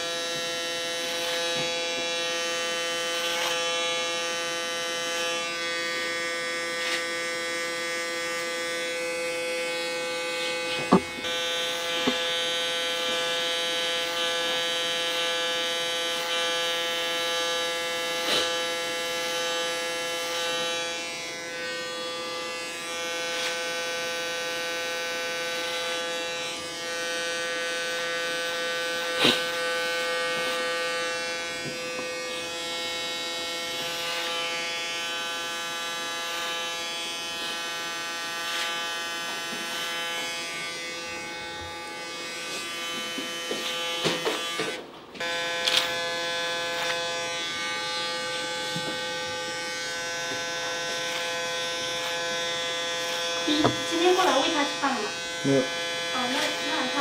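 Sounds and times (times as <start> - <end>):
electric hair clipper buzzing: 0.0 - 57.0.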